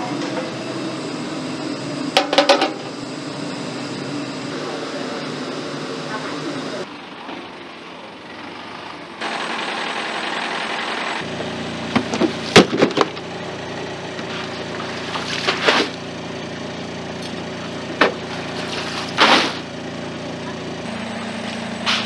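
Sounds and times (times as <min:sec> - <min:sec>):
motor running: 0:00.0 - 0:06.9, 0:09.2 - 0:22.0.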